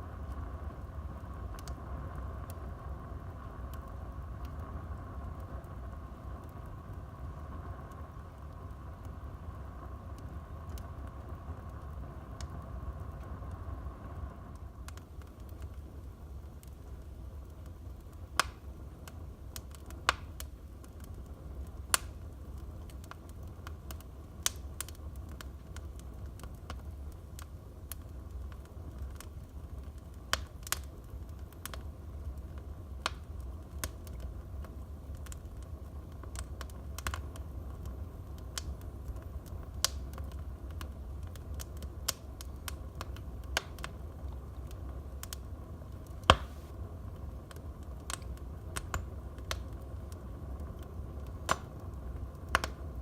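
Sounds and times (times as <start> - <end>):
fire rumbling in fireplace: 0.0 - 53.0
crackles and pops from logs: 0.2 - 2.6, 3.6 - 13.7, 14.5 - 53.0.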